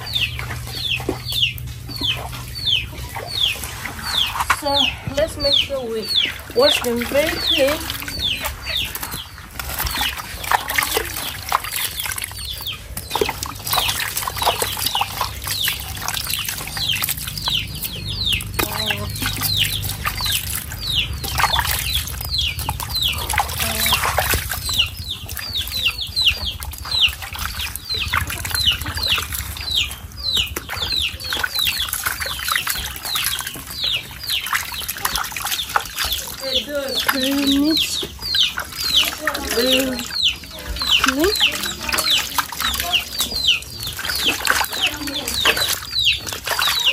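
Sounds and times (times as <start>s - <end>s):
birds chirping: 0.0s - 46.9s
water splashing: 0.0s - 46.9s.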